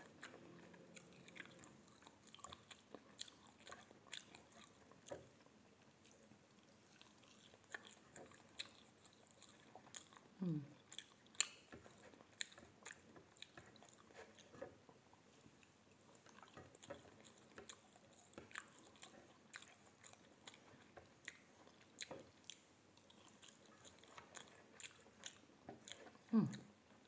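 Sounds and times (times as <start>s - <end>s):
chewing food: 0.0s - 27.0s.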